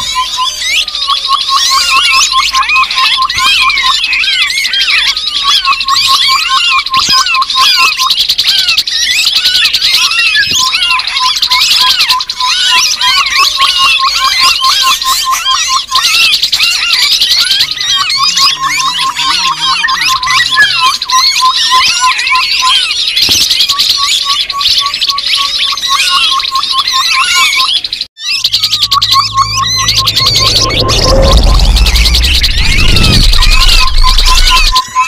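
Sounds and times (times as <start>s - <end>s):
birds chattering chorus: 0.0s - 35.0s.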